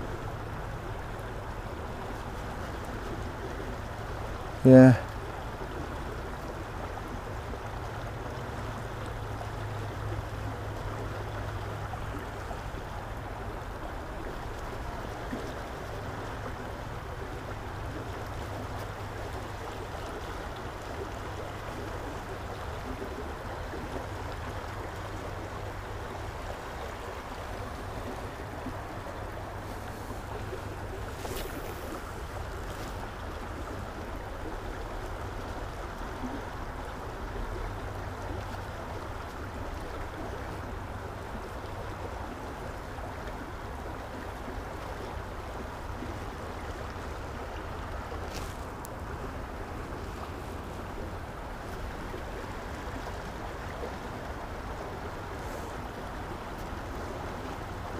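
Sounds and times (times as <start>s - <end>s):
stream water flowing: 0.0s - 57.9s.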